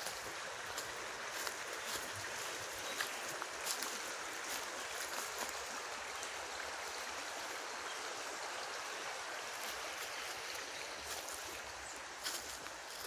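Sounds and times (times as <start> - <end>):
river flowing over gravel: 0.0 - 13.0.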